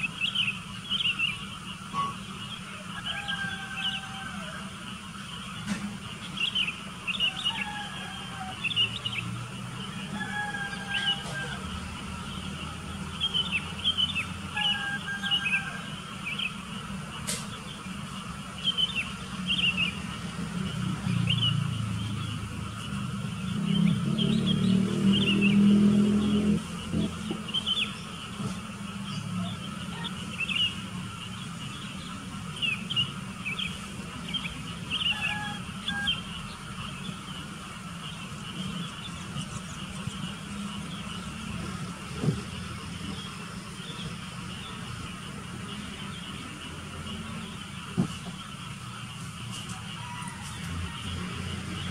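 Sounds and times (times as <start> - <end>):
birds chirping: 0.0 - 51.9
passing vehicle rumble: 0.0 - 51.9.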